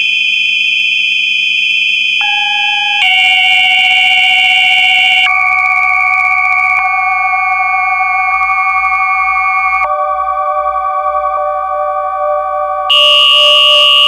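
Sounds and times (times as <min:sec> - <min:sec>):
sustained electronic tones: 0:02.2 - 0:14.0.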